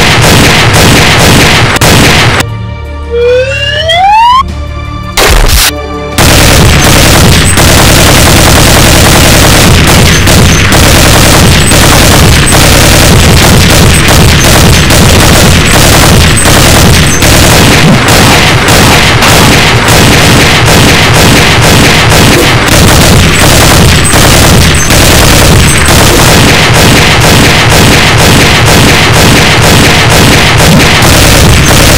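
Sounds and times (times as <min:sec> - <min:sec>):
gunfire and explosions: 0:00.0 - 0:31.9
music: 0:01.9 - 0:31.9.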